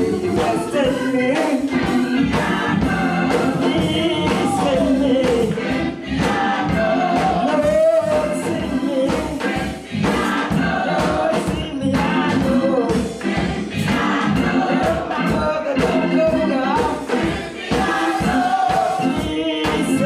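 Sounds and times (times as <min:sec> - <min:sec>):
band with steady beat: 0:00.0 - 0:20.0
choir singing gospel: 0:00.0 - 0:20.0.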